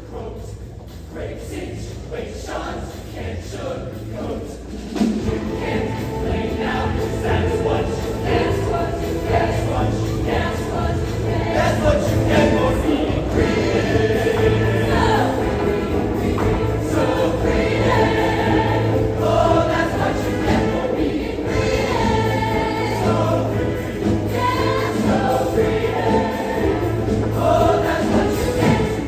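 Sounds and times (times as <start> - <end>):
choir singing: 0.0 - 29.0
instrumental accompaniment: 4.7 - 29.0.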